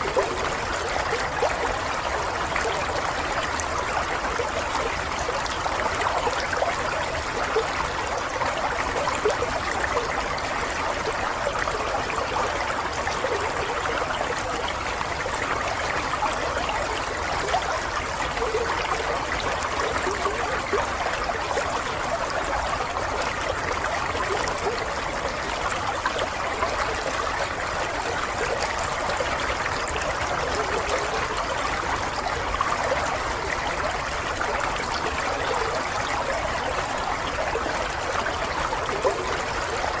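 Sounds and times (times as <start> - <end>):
stream trickling over stones: 0.0 - 40.0.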